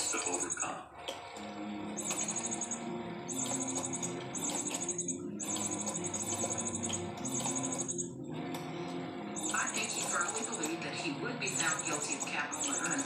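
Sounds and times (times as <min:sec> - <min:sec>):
high-pitched chirping: 0:00.0 - 0:00.8, 0:02.0 - 0:08.2, 0:09.4 - 0:13.0
television background music: 0:00.0 - 0:13.0.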